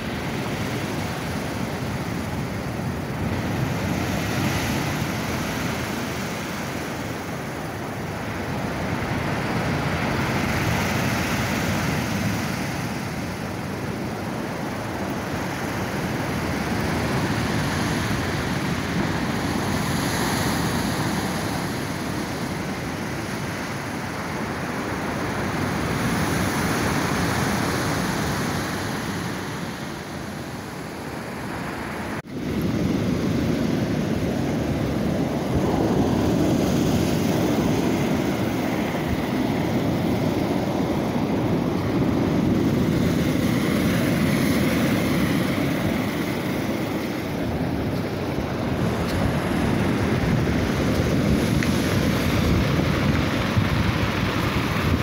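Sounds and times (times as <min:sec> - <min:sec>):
sea surf on pebble beach: 0:00.0 - 0:55.0.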